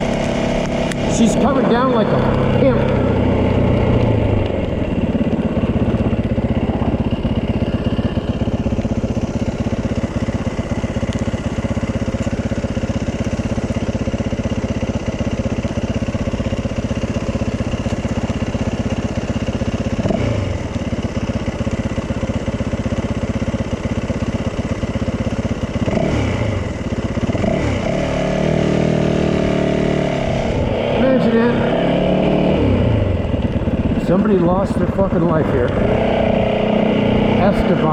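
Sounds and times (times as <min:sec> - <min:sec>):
dirt bike engine running: 0:00.0 - 0:37.9.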